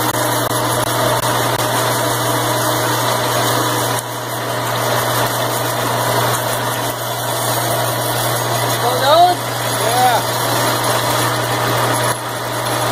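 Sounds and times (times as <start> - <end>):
electric drill boring steel: 0.0 - 12.9.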